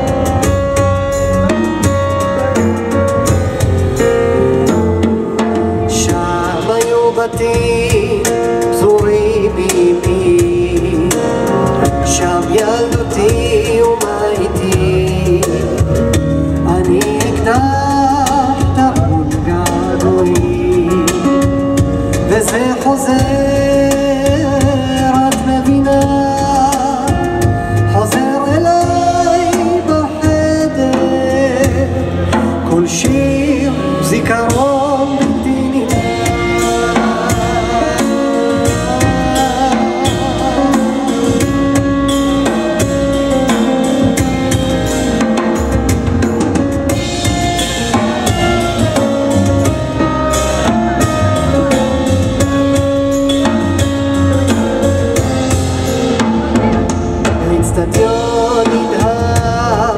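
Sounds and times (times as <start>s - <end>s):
stage piano: 0.0s - 59.9s
steady drum beat: 0.0s - 59.9s
upright double bass: 0.0s - 59.9s
wavering lead melody: 0.0s - 59.9s.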